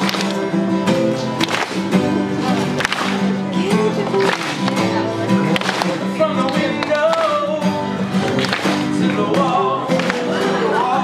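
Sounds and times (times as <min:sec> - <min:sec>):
acoustic guitar: 0:00.0 - 0:11.0
man singing: 0:00.0 - 0:11.0.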